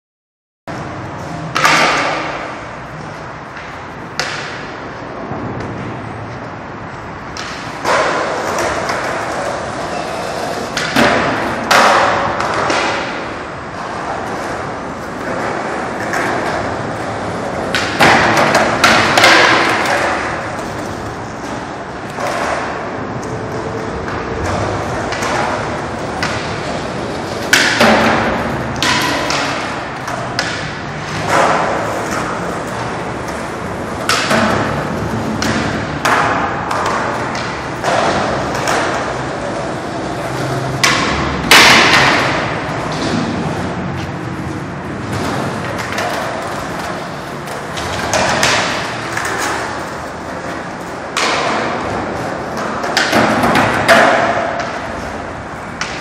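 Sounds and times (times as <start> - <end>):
skateboard thuds and clacks on concrete: 0.7 - 6.4, 7.2 - 56.0
steady background noise: 0.7 - 56.0.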